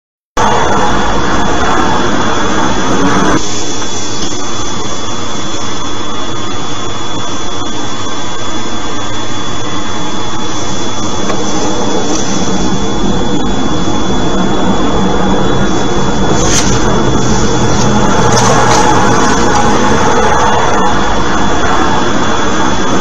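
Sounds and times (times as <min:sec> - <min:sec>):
car road and wind noise: 0:00.4 - 0:23.0.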